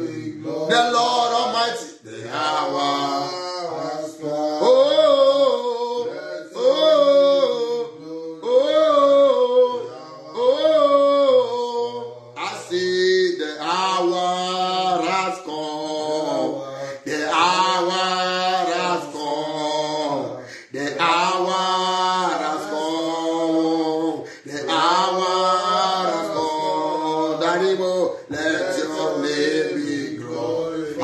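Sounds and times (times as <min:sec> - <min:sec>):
man singing: 0:00.0 - 0:31.0.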